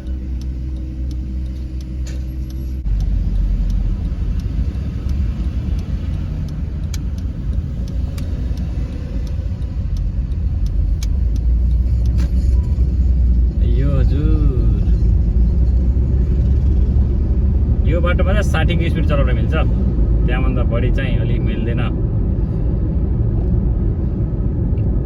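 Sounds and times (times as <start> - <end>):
engine and road noise: 0.0 - 25.0.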